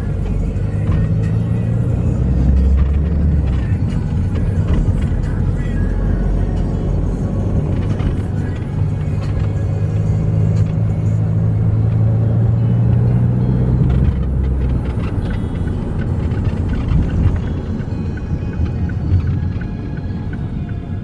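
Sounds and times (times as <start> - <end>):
vehicle interior drone: 0.0 - 21.0.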